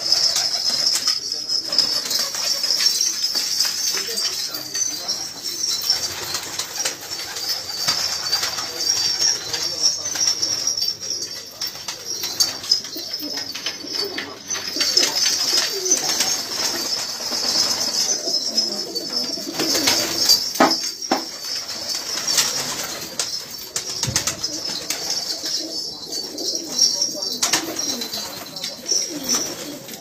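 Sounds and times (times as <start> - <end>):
wings flapping and rustling: 0.0 - 30.0
pigeons cooing: 4.7 - 30.0.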